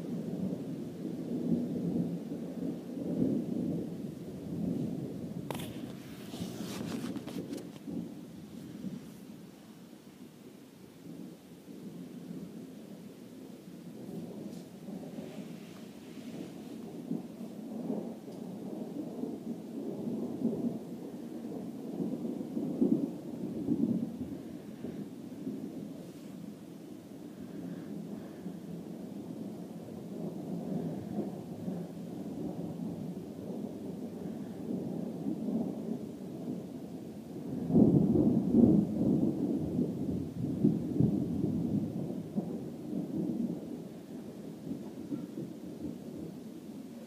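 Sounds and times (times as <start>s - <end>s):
thunder rumbling: 0.0s - 10.4s, 11.0s - 47.0s.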